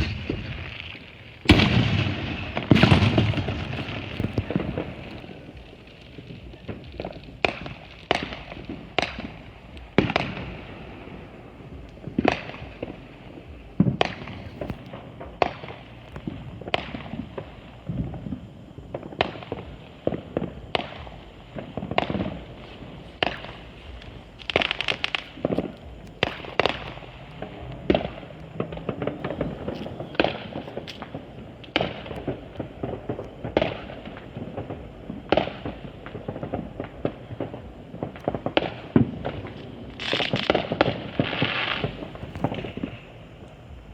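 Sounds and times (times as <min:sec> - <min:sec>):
distant fireworks bangs and pops: 0:00.0 - 0:43.9
fireworks crackle: 0:00.0 - 0:43.9.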